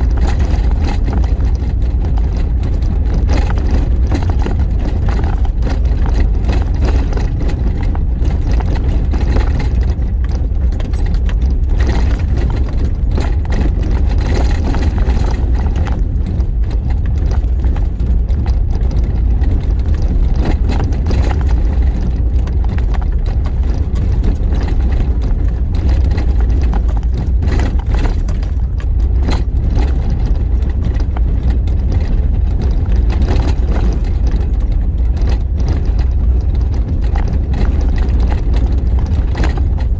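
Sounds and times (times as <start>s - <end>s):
rattles and knocks from bumps: 0.0s - 39.9s
vehicle engine and road rumble: 0.0s - 39.9s.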